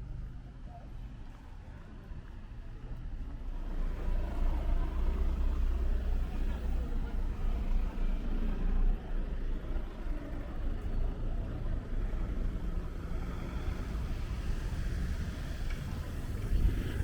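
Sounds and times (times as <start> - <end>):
city street rumble: 0.0 - 17.0.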